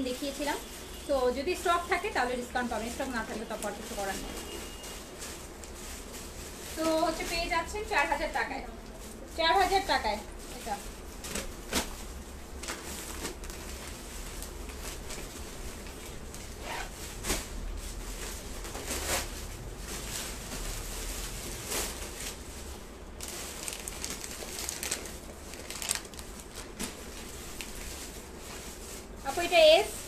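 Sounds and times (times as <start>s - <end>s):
clothing fabric rustling: 0.0s - 30.0s.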